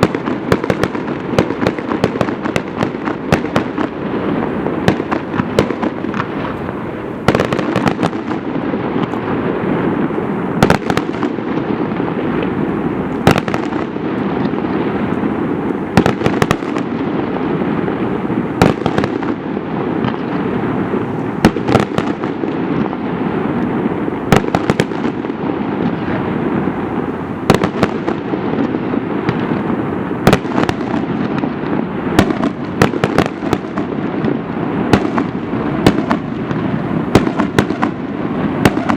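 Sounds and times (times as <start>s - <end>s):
fireworks rumble and crackle: 0.0s - 38.9s
loud firework bangs: 0.0s - 38.9s.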